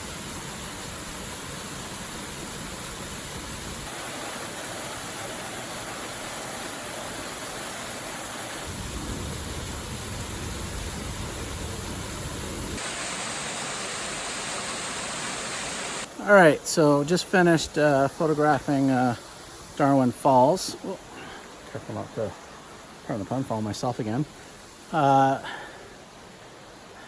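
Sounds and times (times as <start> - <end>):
waterfall splashing: 0.0 - 27.0.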